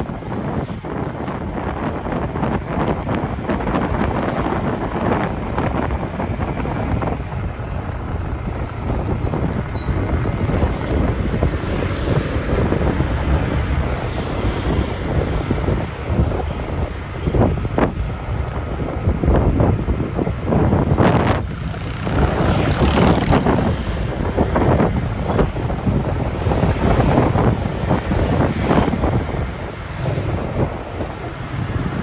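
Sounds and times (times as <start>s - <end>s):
road and traffic noise: 0.0s - 32.0s
wind buffeting microphone: 0.0s - 32.0s.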